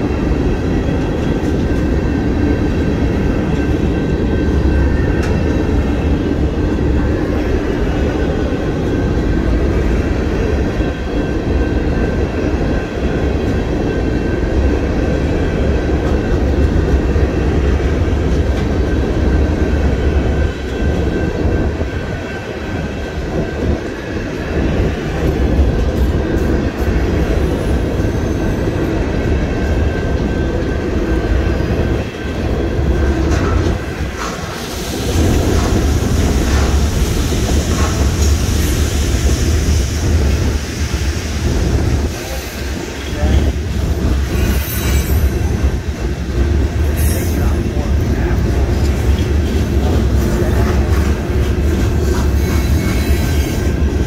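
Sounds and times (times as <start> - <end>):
steel wheels rumbling on rails: 0.0 - 54.0.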